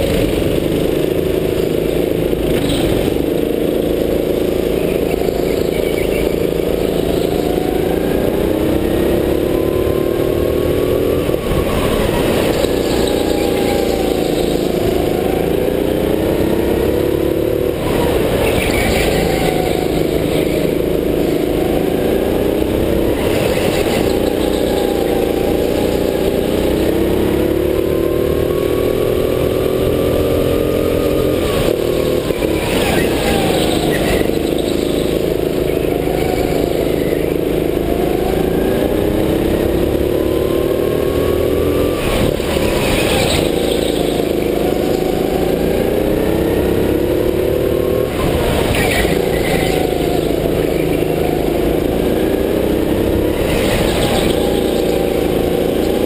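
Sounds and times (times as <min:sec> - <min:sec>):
go-kart motor revving: 0:00.0 - 0:56.0.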